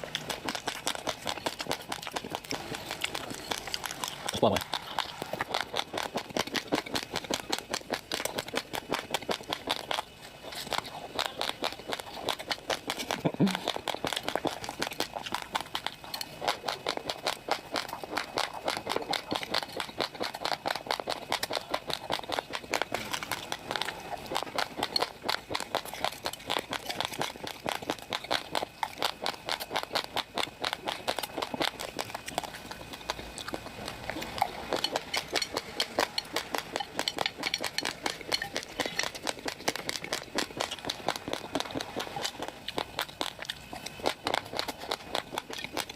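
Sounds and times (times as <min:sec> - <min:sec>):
chewing raw rice crunches: 0:00.0 - 0:45.9.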